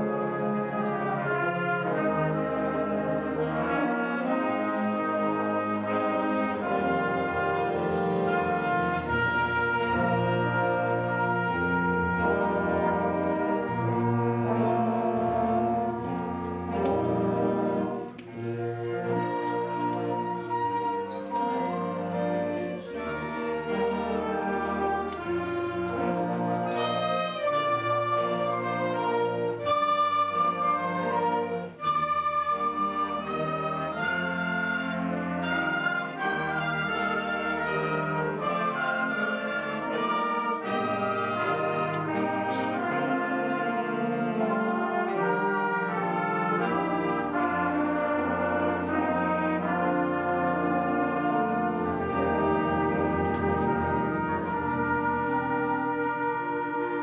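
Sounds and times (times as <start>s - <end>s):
concert band playing: 0.0s - 57.0s.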